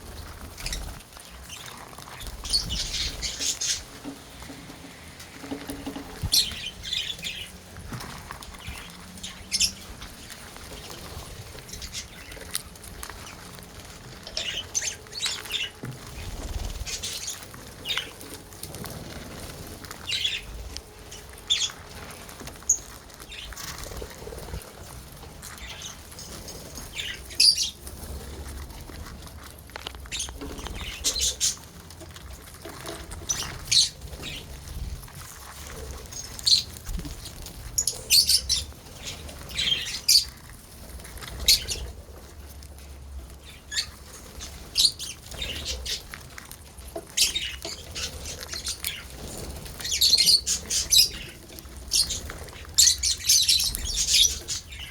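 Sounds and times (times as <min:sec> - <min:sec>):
lovebirds chirping and squawking: 0:00.0 - 0:54.9.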